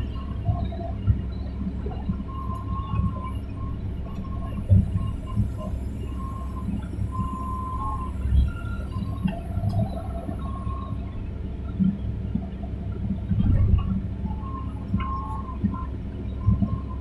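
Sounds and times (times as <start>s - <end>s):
excavator engine rumble: 0.0s - 17.0s.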